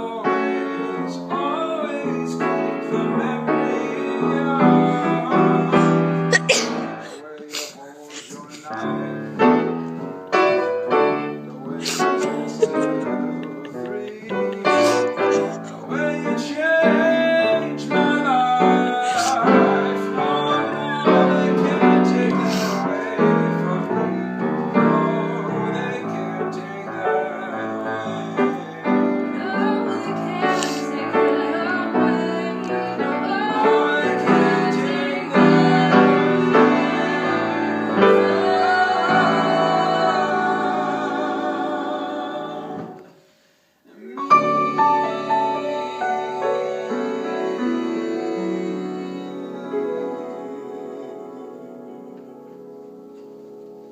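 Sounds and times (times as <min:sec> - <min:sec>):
person singing: 0:00.0 - 0:09.6, 0:11.6 - 0:43.2, 0:43.8 - 0:52.8
piano accompaniment: 0:00.0 - 0:43.2, 0:44.0 - 0:53.9.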